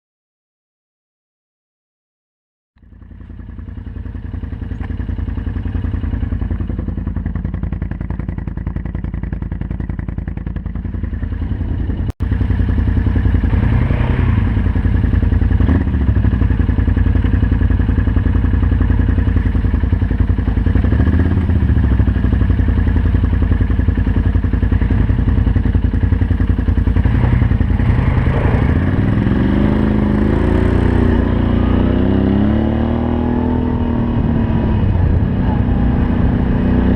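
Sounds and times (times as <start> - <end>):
atv engine revving: 2.8 - 36.9.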